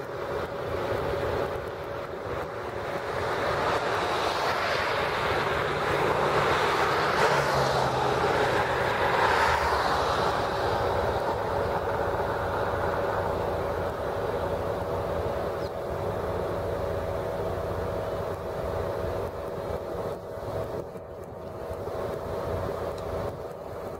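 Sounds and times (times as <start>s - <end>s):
highway traffic passing: 0.0s - 23.9s.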